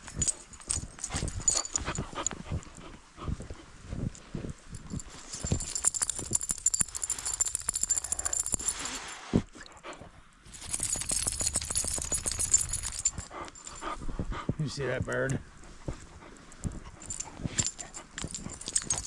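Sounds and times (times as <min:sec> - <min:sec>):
metal harness hardware jingling: 0:00.0 - 0:09.2, 0:10.5 - 0:14.0, 0:15.0 - 0:19.0.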